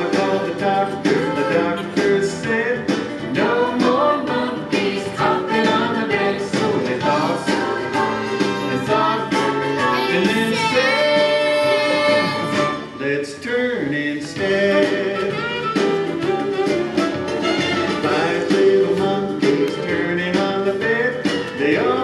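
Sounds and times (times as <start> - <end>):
person singing: 0.0 - 15.8, 17.9 - 22.0
instrumental accompaniment: 0.0 - 22.0.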